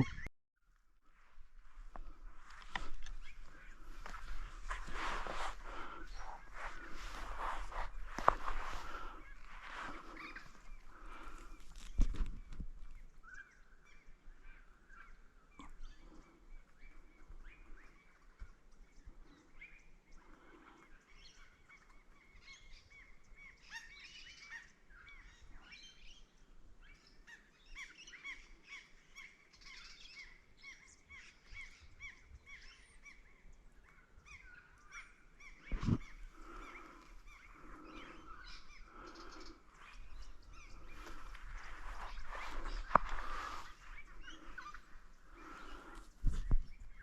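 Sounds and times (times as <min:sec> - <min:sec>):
wild birds chirping: 0:00.0 - 0:47.0.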